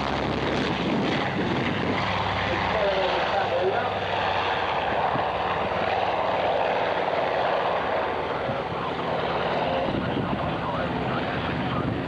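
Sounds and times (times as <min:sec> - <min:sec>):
aircraft engine flying: 0:00.0 - 0:12.0.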